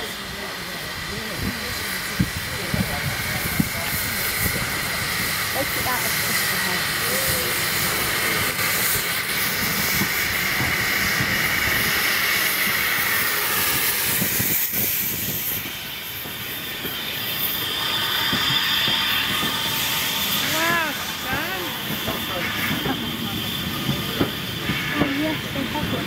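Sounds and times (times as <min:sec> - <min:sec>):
hiss of escaping steam: 0:00.0 - 0:26.0
steam locomotives passing: 0:00.0 - 0:26.0.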